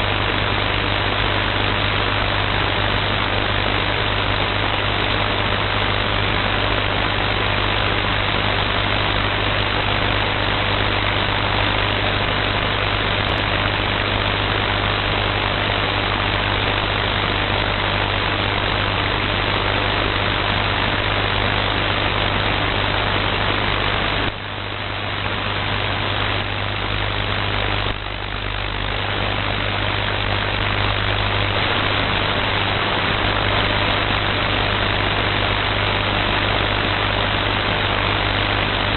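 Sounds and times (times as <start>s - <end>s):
low buzz: 0.0s - 38.9s
radio interference hiss: 0.0s - 38.9s.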